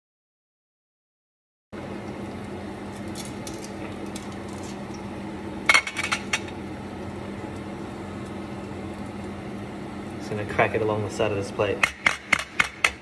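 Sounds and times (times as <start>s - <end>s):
steady low hum: 1.8s - 13.0s.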